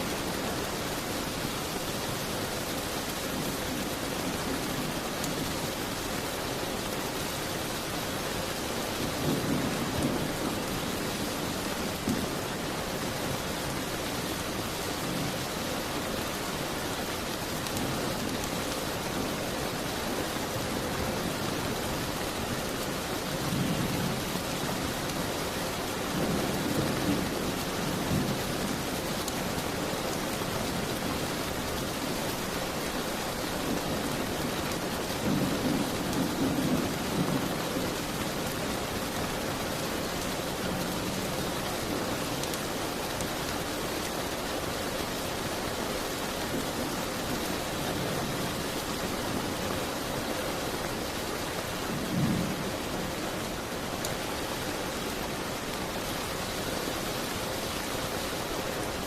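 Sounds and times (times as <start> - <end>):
rain beating on a window: 0.0 - 59.0.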